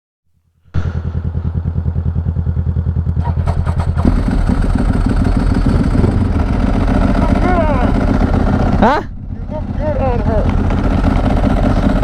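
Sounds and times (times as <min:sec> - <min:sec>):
motorcycle engine idling: 0:00.7 - 0:12.0.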